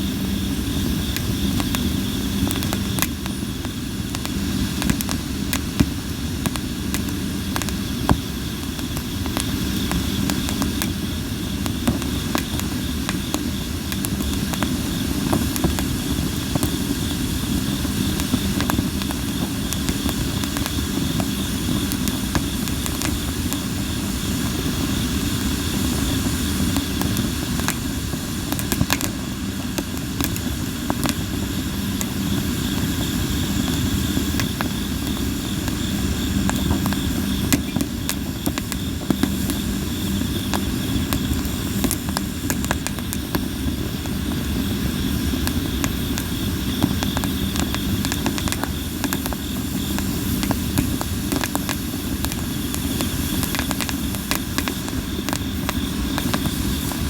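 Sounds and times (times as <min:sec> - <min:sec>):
campfire crackling: 0:00.0 - 0:57.0
low rush of burning: 0:00.0 - 0:57.0.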